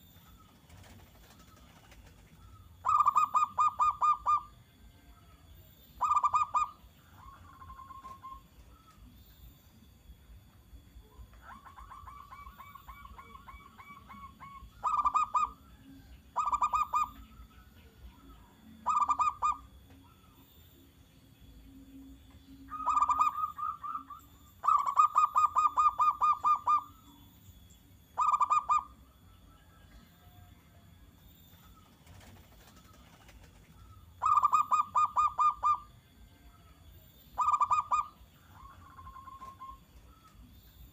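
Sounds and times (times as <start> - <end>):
dove singing stuttering notes: 0.0 - 4.8, 5.8 - 29.6, 31.3 - 36.2, 37.2 - 40.9.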